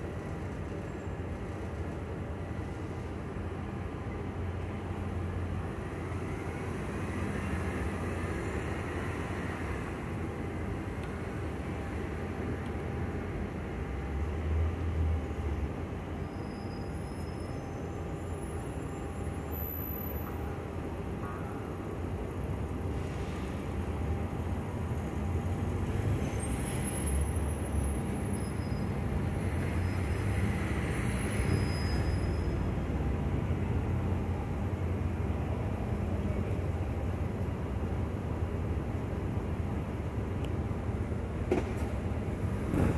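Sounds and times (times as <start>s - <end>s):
city traffic rumble: 0.0s - 42.9s.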